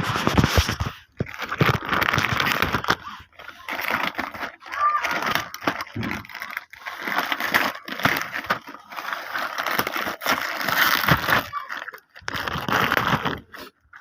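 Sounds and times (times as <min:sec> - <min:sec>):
toy packaging crinkling and tearing: 0:00.0 - 0:14.0.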